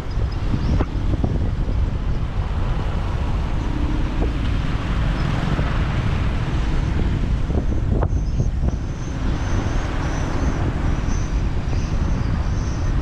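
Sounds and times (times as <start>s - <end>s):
motorcycle engine and road rumble: 0.0s - 13.0s
wind buffeting microphone: 0.0s - 13.0s.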